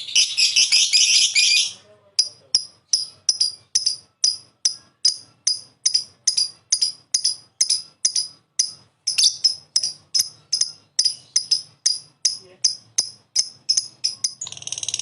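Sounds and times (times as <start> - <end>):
lovebird chirping: 0.0 - 15.0.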